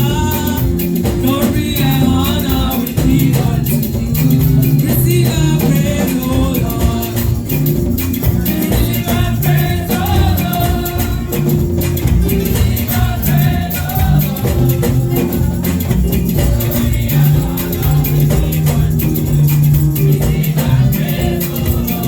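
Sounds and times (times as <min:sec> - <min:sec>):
person singing: 0:00.0 - 0:07.8, 0:08.4 - 0:22.0
guitar: 0:00.0 - 0:22.0
praise band playing upbeat music: 0:00.0 - 0:22.0
shaker percussion: 0:00.0 - 0:22.0.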